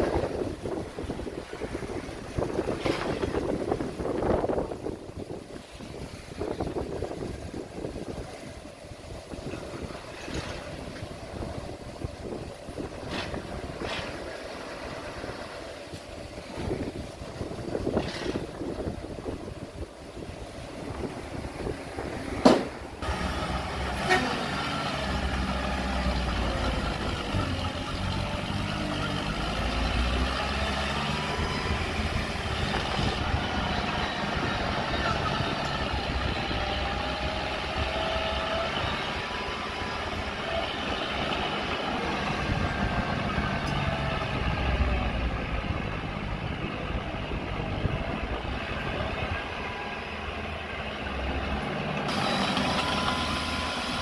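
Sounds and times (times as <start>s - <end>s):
diesel machinery engine rumble: 0.0s - 54.0s.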